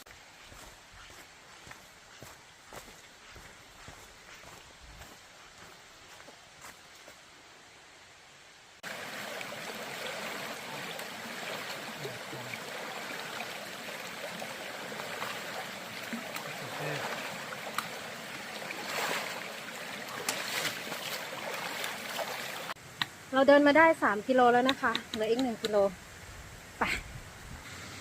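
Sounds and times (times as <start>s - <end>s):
stream water rushing and trickling: 0.0s - 28.0s.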